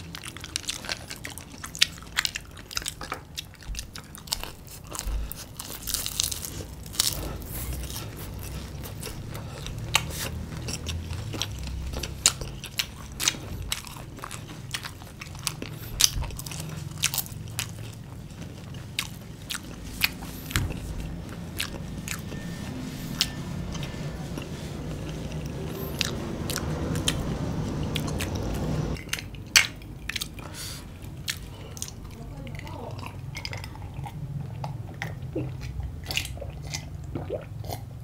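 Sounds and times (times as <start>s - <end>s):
people crunching fried food: 0.0s - 38.0s.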